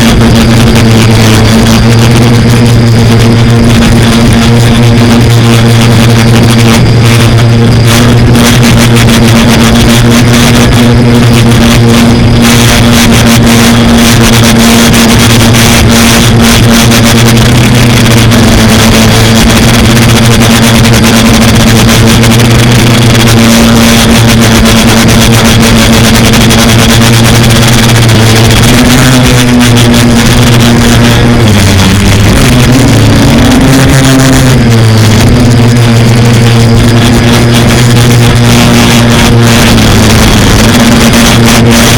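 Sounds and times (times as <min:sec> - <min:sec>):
quadcopter propellers buzzing: 0:00.0 - 0:41.9
rushing noise: 0:00.0 - 0:41.9.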